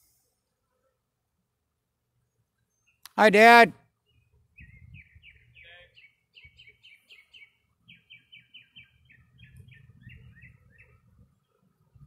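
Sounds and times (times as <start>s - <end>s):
songbird chirping: 2.0s - 12.0s.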